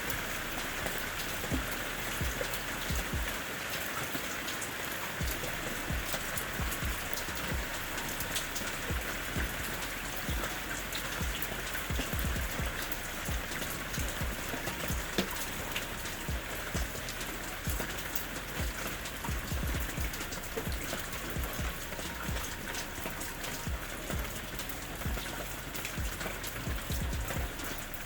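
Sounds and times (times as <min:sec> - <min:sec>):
raindrops ticking and thudding: 0:00.0 - 0:28.0
steady rain: 0:00.0 - 0:28.0.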